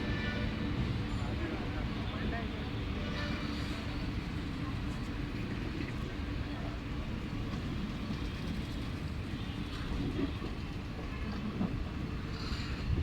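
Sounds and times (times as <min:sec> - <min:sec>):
train approaching low rumble: 0:00.0 - 0:13.0.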